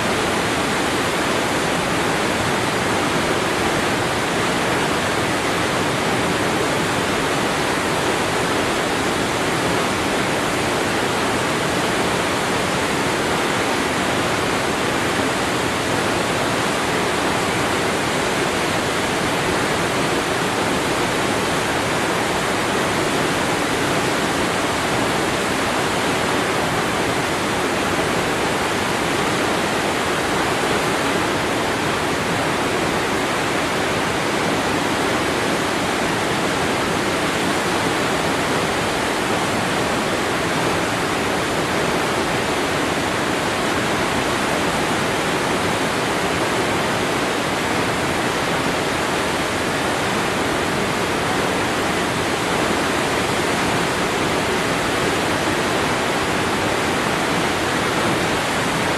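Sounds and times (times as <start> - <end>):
waterfall splashing: 0.0 - 58.9.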